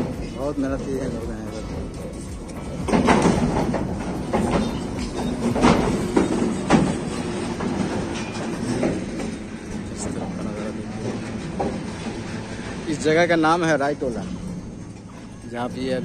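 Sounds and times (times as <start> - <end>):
metallic clanks and knocks: 0.0 - 13.1
goods train rumbling past: 0.0 - 16.0.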